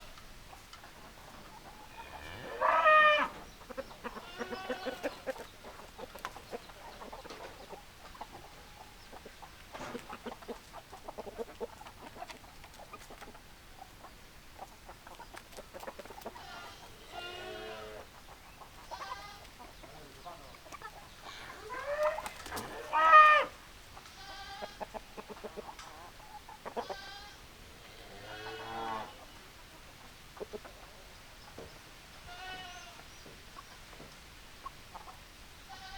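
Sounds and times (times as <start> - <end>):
chickens clucking: 0.0 - 35.9.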